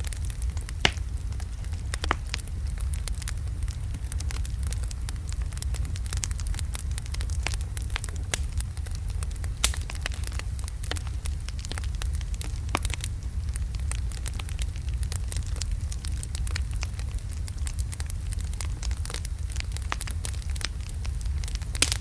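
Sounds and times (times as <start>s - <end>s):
logs crackling in fireplace: 0.0s - 22.0s
low rumble of flames: 0.0s - 22.0s
sharp pops of burning wood: 0.0s - 22.0s.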